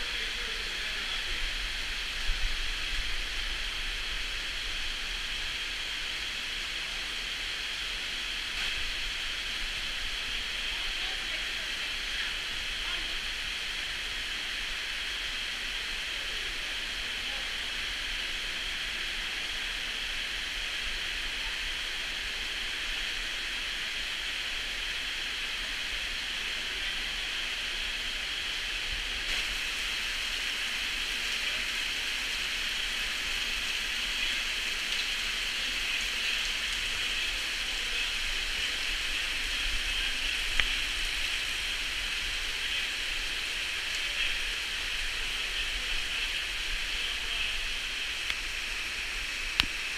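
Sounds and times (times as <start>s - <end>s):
meltwater rushing and dripping: 0.0s - 49.9s.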